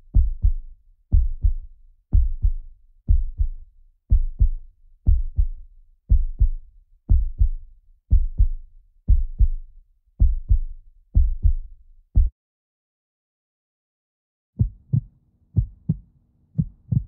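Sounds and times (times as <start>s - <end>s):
heartbeat thumps: 0.0s - 12.3s, 14.6s - 16.0s, 16.6s - 17.0s.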